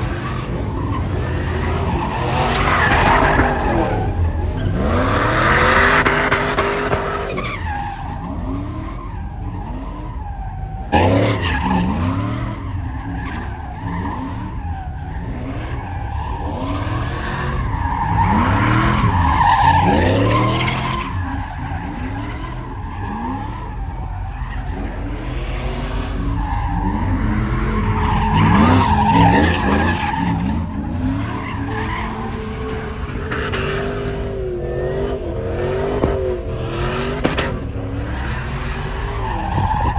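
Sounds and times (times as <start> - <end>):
truck engines revving: 0.0 - 39.9
tyres skidding and squealing: 0.0 - 39.9.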